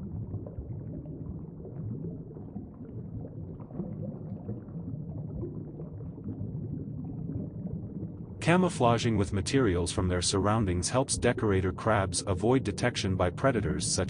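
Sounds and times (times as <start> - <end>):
underwater bubbling: 0.0 - 14.0.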